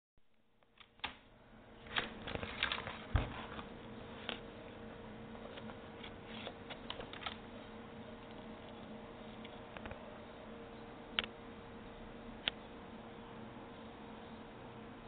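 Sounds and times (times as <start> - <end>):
faint steady hum: 0.2 - 15.0.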